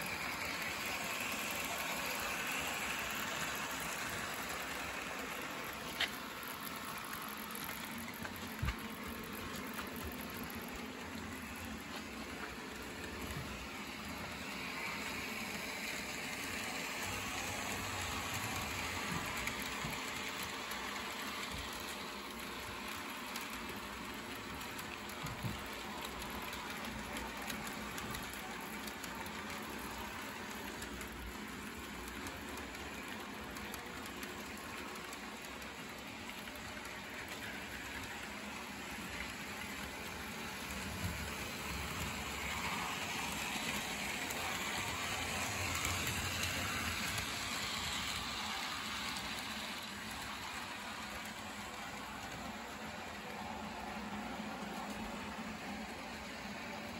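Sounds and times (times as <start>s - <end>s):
model train wheels rolling: 0.0s - 56.9s.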